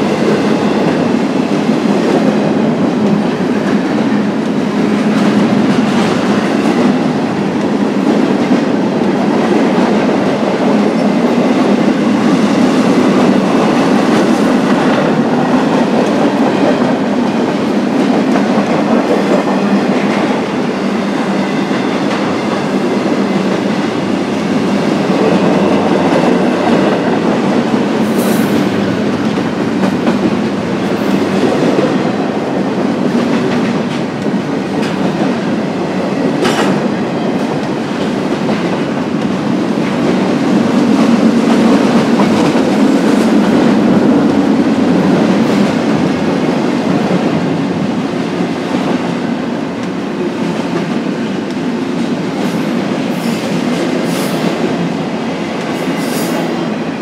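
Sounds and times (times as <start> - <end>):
freight train cars rolling past: 0.0 - 57.0.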